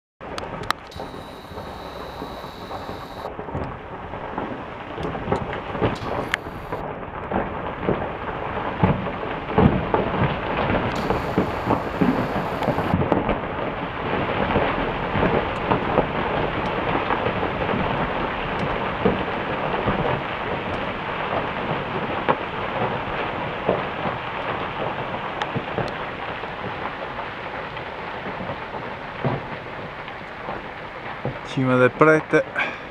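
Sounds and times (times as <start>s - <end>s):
rockfall rumble: 3.3s - 11.0s, 12.9s - 32.9s.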